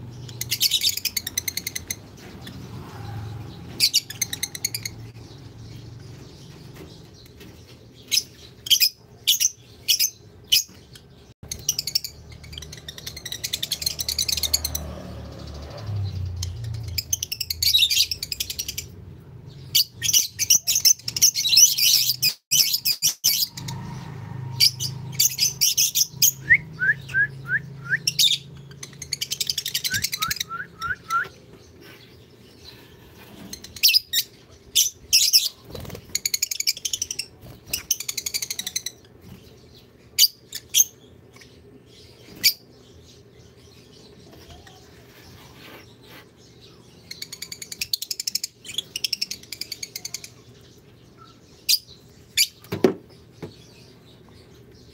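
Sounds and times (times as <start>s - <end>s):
lovebirds chirping and squawking: 0.0s - 54.9s.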